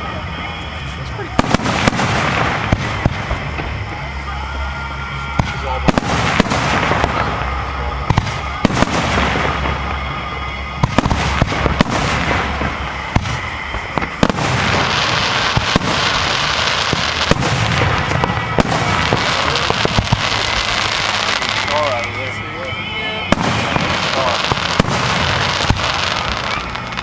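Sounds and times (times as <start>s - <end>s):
crackle of small firework bursts: 0.0s - 27.0s
fireworks bangs: 0.0s - 27.0s.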